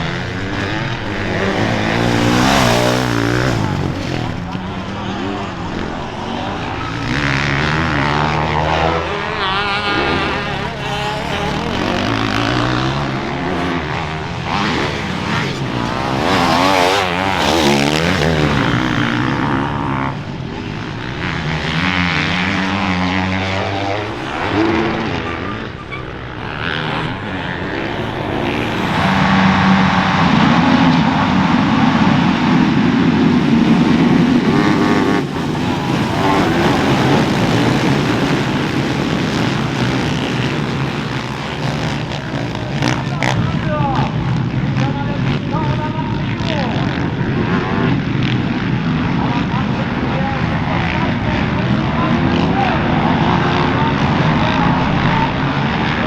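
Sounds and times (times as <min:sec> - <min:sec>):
motocross engines revving: 0:00.0 - 0:56.0.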